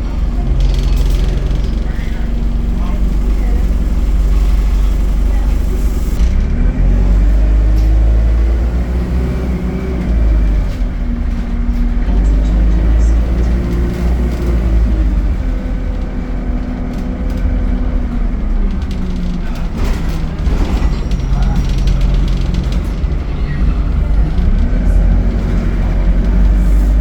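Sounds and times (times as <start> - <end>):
bus engine accelerating: 0.0 - 27.0.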